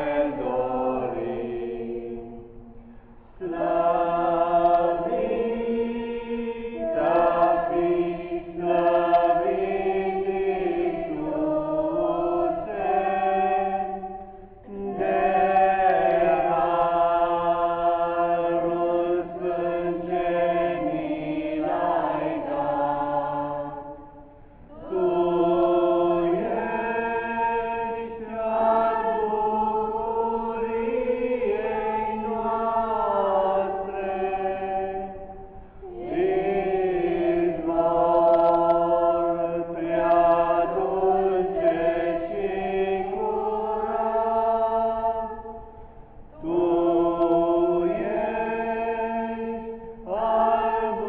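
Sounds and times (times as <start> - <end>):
women singing a hymn unaccompanied: 0.0 - 51.0.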